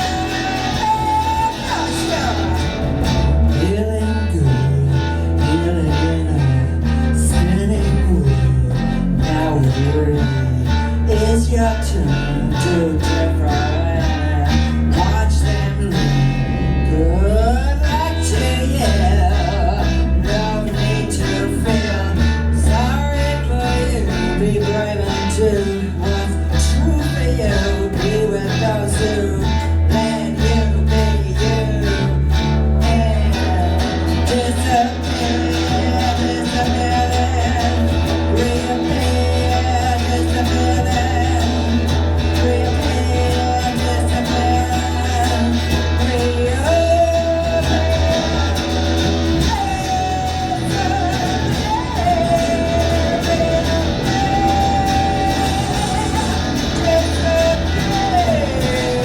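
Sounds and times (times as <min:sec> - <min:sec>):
live band music: 0:00.0 - 0:17.0, 0:18.1 - 0:59.0
electric guitar: 0:00.0 - 0:59.0
person singing: 0:00.0 - 0:59.0
steady bass: 0:00.0 - 0:59.0.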